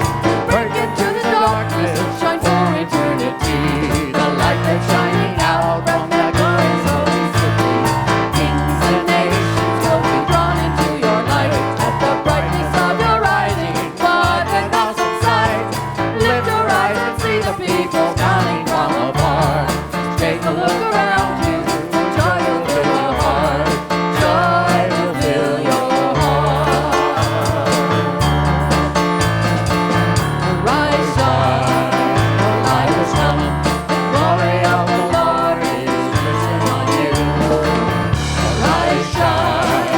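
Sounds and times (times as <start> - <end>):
band playing worship music: 0.0 - 39.9
voices singing: 0.0 - 39.9.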